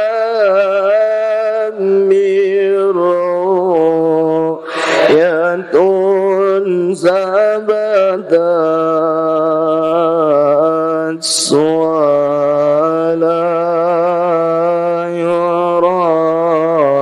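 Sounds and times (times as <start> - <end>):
man chanting verses: 0.0 - 17.0.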